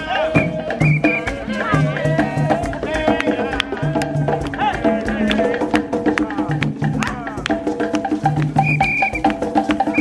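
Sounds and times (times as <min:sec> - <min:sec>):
background music with percussion: 0:00.0 - 0:10.0.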